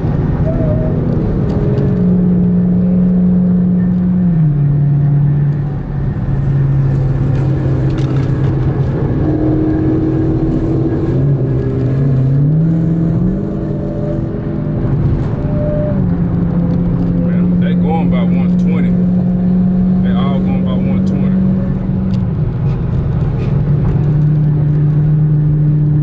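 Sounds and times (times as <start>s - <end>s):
car engine drone at high speed: 0.0s - 26.0s.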